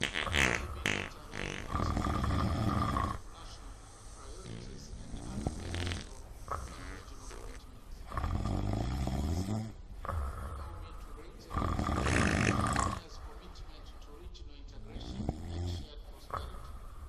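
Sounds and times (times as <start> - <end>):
person snoring: 0.0 - 3.3, 4.0 - 10.8, 11.5 - 13.2, 15.0 - 17.0.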